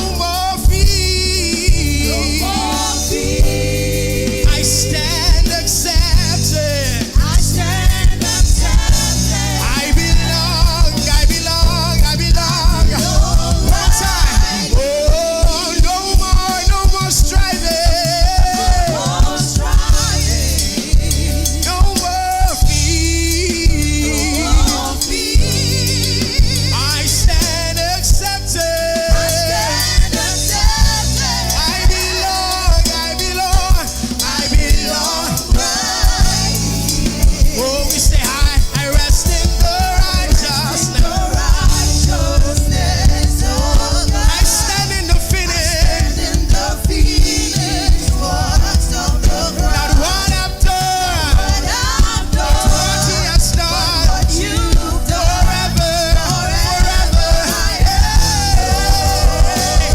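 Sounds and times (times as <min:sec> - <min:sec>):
band playing gospel music: 0:00.0 - 0:59.9
person singing: 0:00.0 - 0:59.9.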